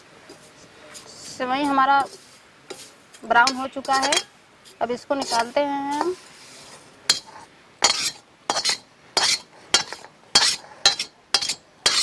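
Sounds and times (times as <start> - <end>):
spoon scraping and knocking pan: 0.2 - 4.3, 5.0 - 12.0.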